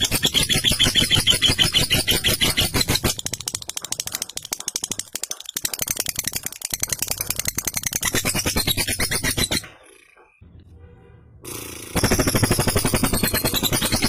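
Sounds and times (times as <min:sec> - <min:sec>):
lovebird chattering: 0:00.0 - 0:10.4, 0:11.5 - 0:14.0.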